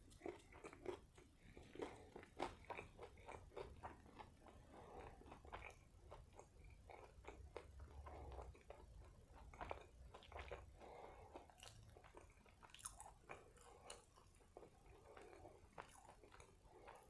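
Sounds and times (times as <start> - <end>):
chewing with wet mouth clicks: 0.0 - 17.0.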